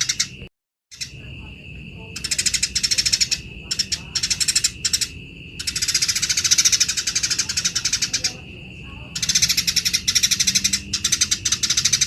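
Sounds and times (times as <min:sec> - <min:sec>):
sparrow chattering calls: 0:00.0 - 0:12.0.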